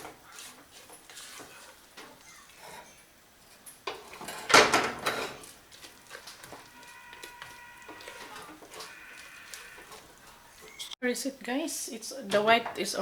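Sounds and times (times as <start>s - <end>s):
utensil scraping in pot: 0.0s - 10.9s.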